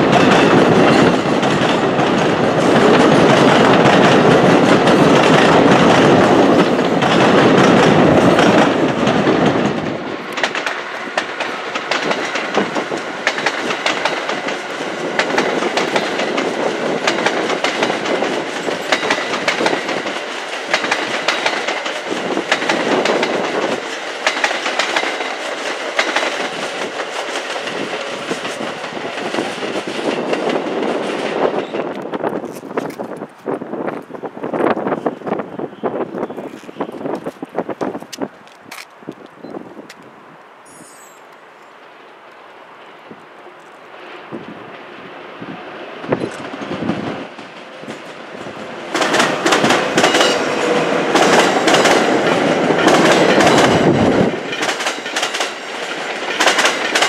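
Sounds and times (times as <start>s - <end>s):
train wheels clicking over rail joints: 0.0s - 35.4s, 46.0s - 57.0s
train rumbling past: 0.0s - 57.0s.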